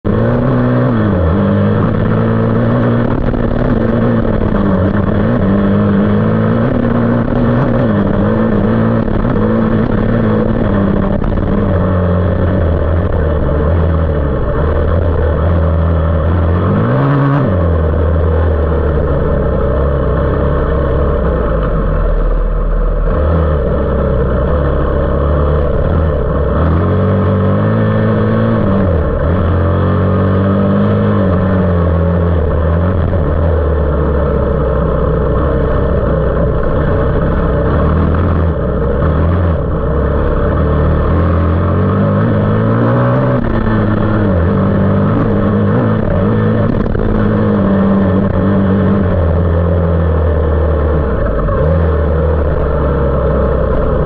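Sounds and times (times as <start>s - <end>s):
off-road motorcycle engine revving: 0.0s - 54.0s.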